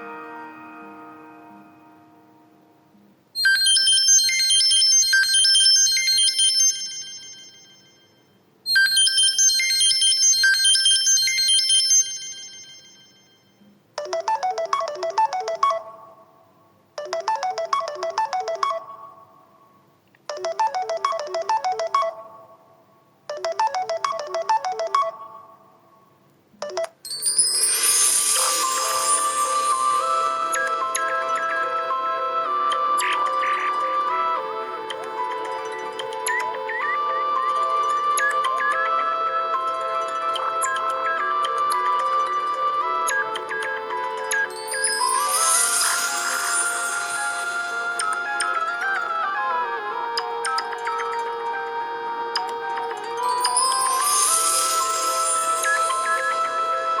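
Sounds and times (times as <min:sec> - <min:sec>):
lower melodic phone tone: 0:00.0 - 0:19.6, 0:20.3 - 0:25.8, 0:26.6 - 0:57.0
high chiming phone melody: 0:03.4 - 0:16.4, 0:17.0 - 0:19.5, 0:20.3 - 0:25.8, 0:26.6 - 0:57.0.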